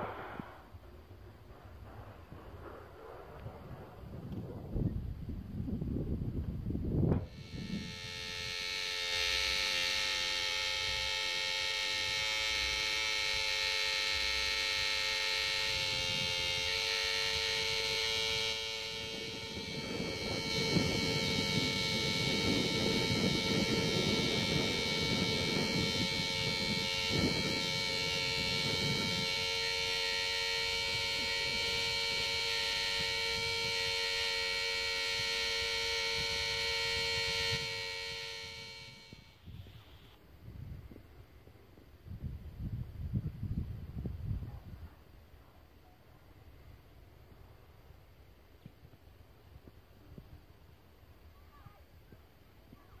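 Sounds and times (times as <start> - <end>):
steady hum of fixed tones: 0.0 - 43.8.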